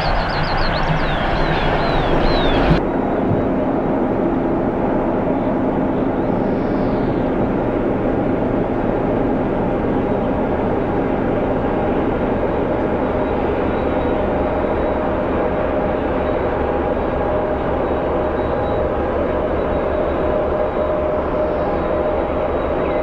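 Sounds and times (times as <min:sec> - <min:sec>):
diesel locomotive engines under load: 0:00.0 - 0:23.0.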